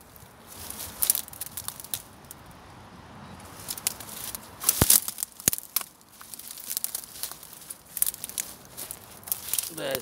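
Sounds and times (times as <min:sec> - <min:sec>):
dry leaves crackling underfoot: 0:00.0 - 0:02.5, 0:03.4 - 0:10.0.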